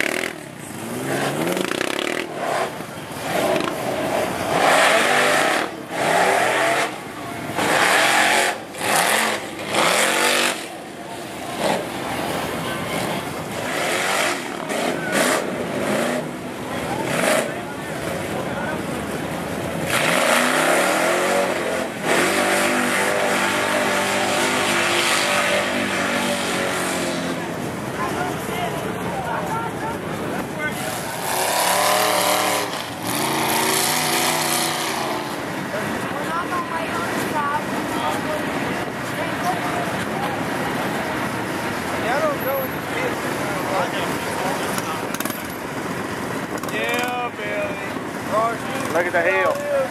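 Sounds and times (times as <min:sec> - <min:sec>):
truck engine revving: 0:00.0 - 0:28.5, 0:30.0 - 0:47.2
tyres churning through mud: 0:00.0 - 0:49.9.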